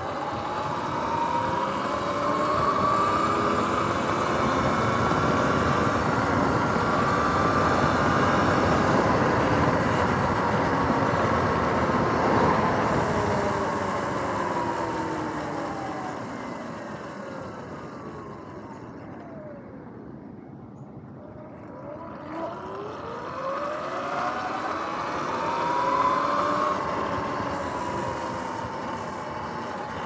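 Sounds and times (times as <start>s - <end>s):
electric motor whine: 0.0s - 30.0s
wind and tyre noise: 0.0s - 30.0s.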